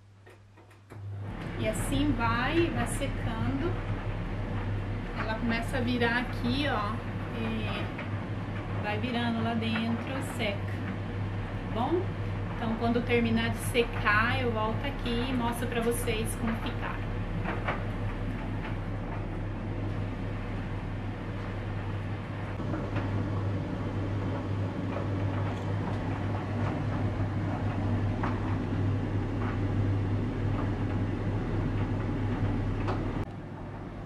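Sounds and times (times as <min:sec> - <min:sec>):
tumble dryer humming: 0:00.0 - 0:34.0.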